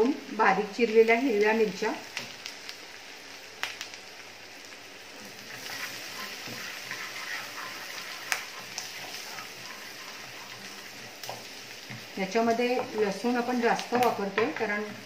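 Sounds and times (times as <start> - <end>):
garlic sizzling in a frying pan: 0.0 - 15.0.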